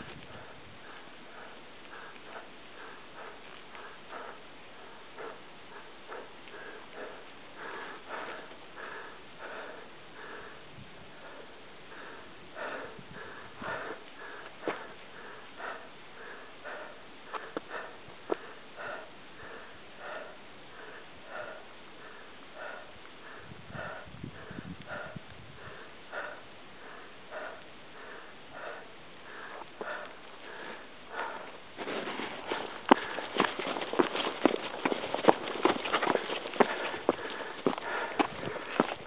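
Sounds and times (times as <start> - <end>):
person breathing hard: 0.0 - 39.0.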